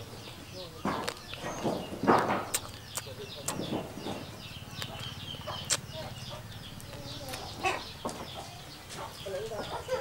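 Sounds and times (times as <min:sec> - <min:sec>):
chickens clucking: 0:00.0 - 0:10.0
high bird chirps: 0:00.1 - 0:10.0.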